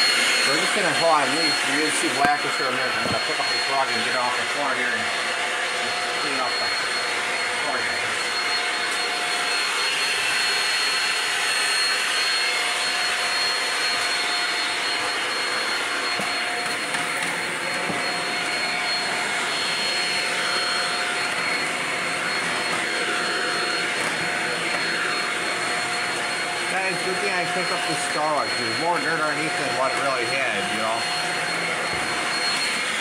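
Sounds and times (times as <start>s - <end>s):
stick vacuum running: 0.0s - 33.0s.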